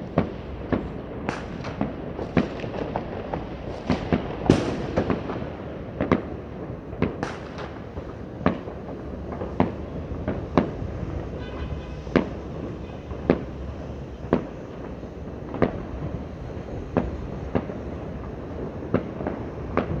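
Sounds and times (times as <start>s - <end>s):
distant fireworks bangs: 0.0s - 20.0s
fireworks bangs: 0.0s - 20.0s.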